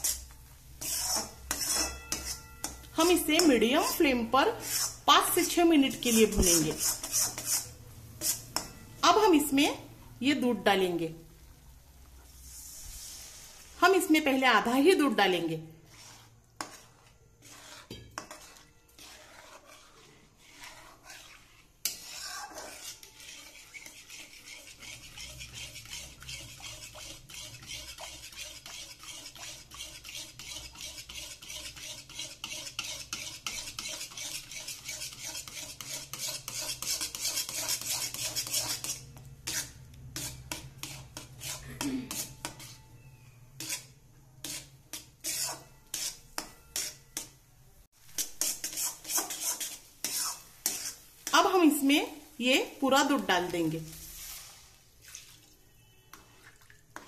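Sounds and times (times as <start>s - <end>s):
spatula scraping metal pan: 0.0s - 9.6s, 12.2s - 47.4s, 48.1s - 51.9s, 52.7s - 54.8s.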